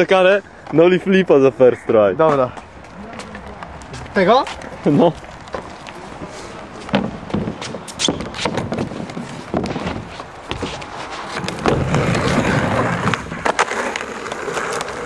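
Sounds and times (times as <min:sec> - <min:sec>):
skateboard wheels rolling on concrete: 0:00.0 - 0:15.0
skateboard clacks: 0:02.6 - 0:15.0.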